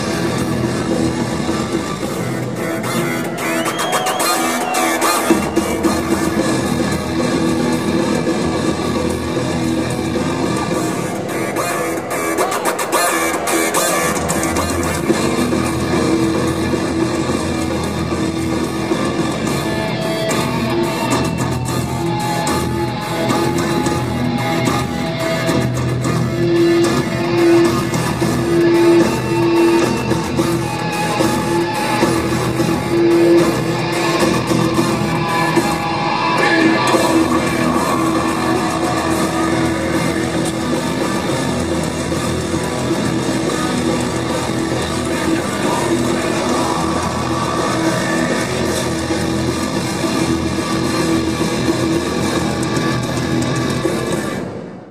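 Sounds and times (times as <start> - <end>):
rock song led by guitar: 0.0 - 54.9.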